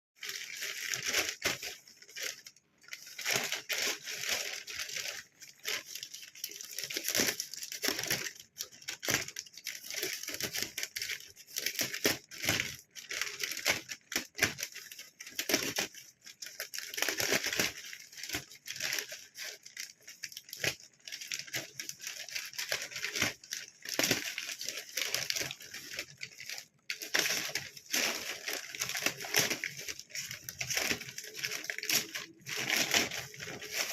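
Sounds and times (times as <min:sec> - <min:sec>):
packaging crinkling and tearing: 0:00.2 - 0:33.9.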